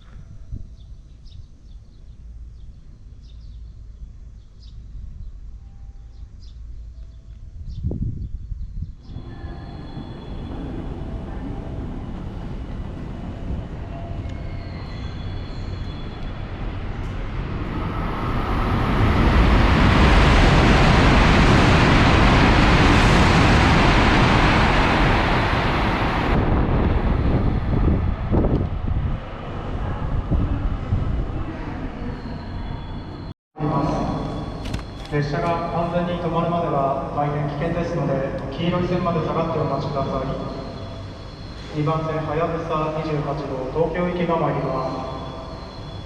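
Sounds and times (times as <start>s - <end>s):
train rushing past: 9.0s - 46.0s.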